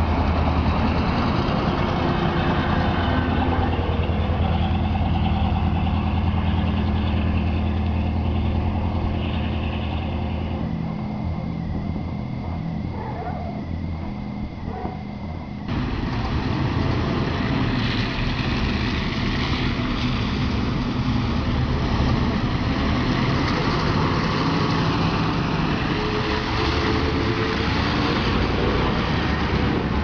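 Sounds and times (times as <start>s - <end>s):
bus engine passing by: 0.0s - 11.0s, 15.7s - 30.0s.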